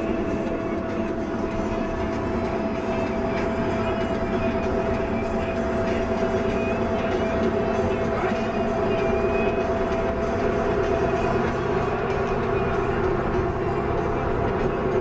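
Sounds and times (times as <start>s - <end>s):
constant whine: 0.0s - 15.0s
vehicle engine and road drone: 0.0s - 15.0s.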